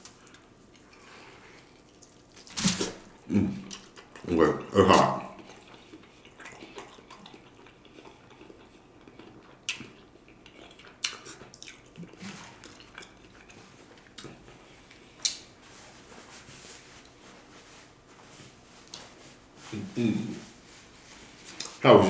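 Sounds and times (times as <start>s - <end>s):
wet food handling: 0.0s - 22.0s.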